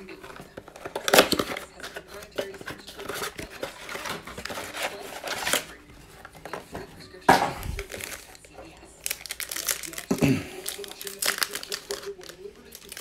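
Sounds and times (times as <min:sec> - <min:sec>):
cardboard and foil rustling: 0:00.0 - 0:13.0.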